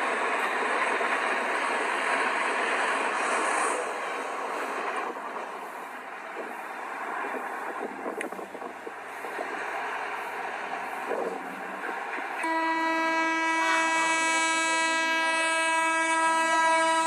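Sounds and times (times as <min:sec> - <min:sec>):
train wheels on track: 0:00.0 - 0:17.0.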